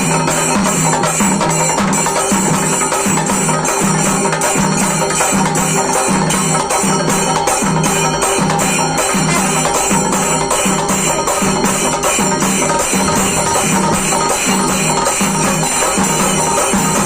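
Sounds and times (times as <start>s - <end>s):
steady percussion beat: 0.0s - 17.0s.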